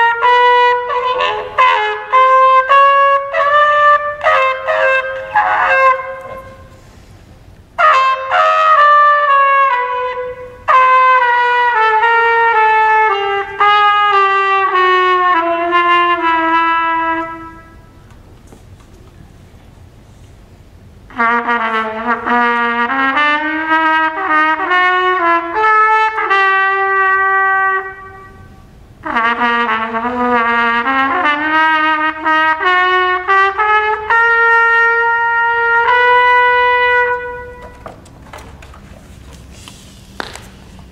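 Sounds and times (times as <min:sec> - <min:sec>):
solo trumpet: 0:00.0 - 0:18.3, 0:21.0 - 0:38.1.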